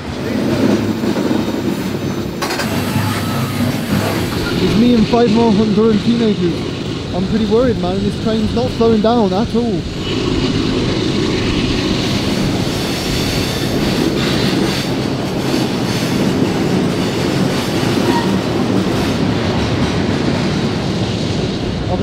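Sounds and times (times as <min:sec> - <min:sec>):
freight train rolling: 0:00.0 - 0:22.0.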